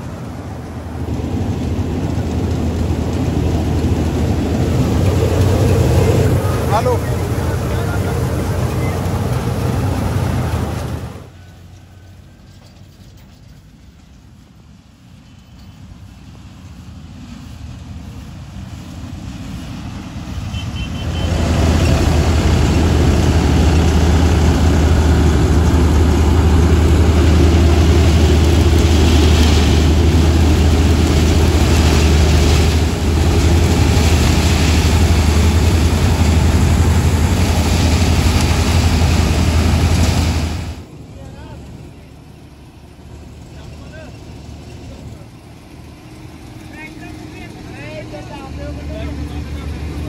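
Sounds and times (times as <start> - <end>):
harvester and tractor engines droning: 0.0 - 50.0.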